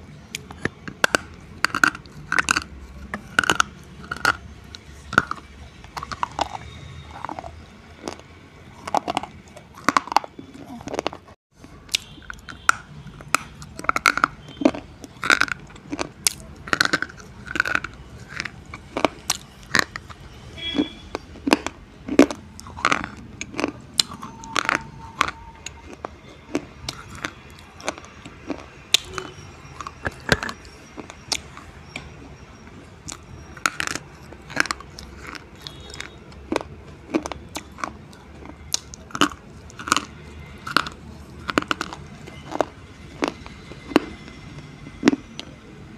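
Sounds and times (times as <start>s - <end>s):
slate pencils crunching when chewed: 0.0s - 45.7s.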